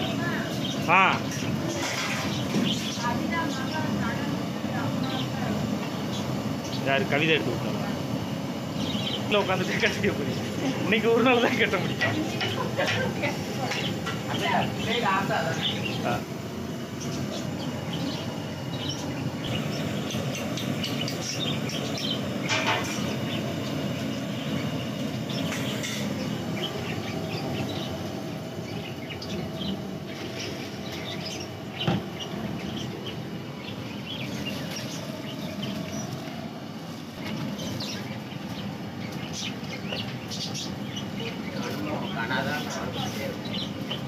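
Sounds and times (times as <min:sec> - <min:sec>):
water boiling hard in pot: 0:00.0 - 0:44.0.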